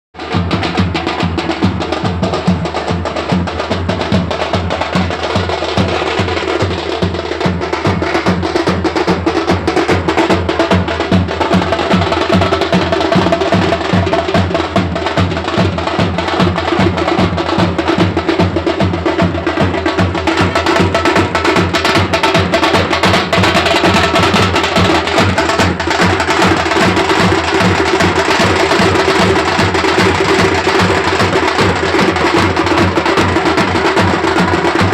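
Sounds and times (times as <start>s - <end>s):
drum-led music: 0.2s - 34.9s.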